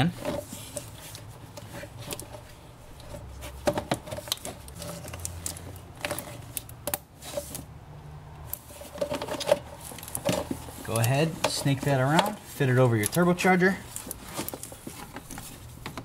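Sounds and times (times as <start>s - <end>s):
plastic hoses clicking and knocking: 0.0s - 7.6s, 8.4s - 16.0s.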